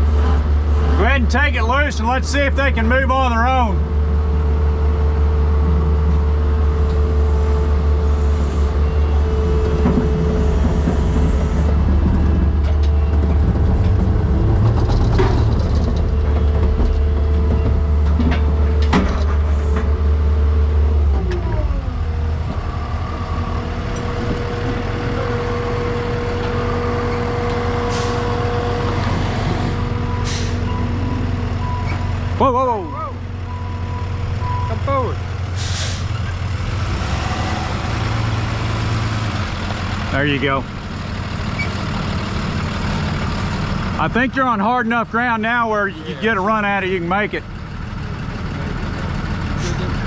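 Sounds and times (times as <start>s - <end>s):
heavy vehicle engine under load: 0.0s - 50.0s.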